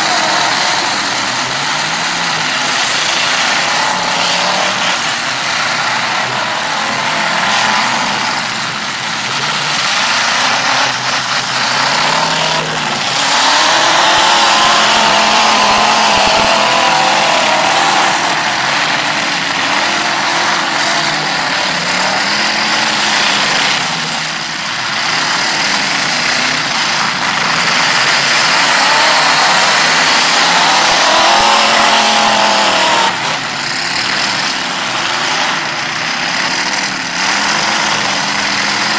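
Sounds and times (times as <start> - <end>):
car engines revving hard: 0.0 - 38.9.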